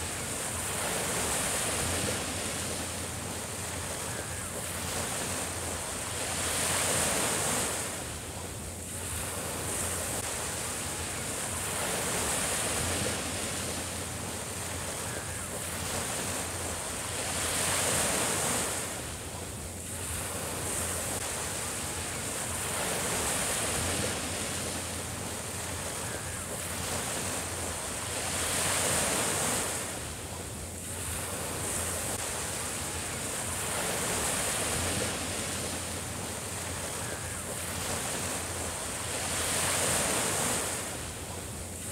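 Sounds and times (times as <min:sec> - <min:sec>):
small waves breaking on beach: 0:00.0 - 0:41.9.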